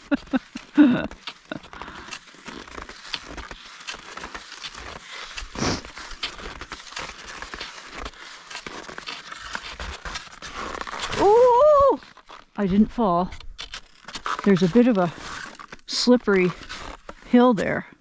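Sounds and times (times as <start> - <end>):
skis crunching and scraping in snow: 0.0 - 18.0.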